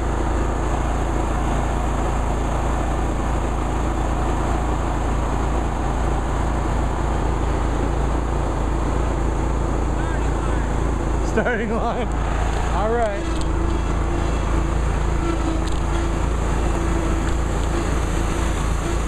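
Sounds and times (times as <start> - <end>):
riding lawn mower engines droning: 0.0 - 19.0.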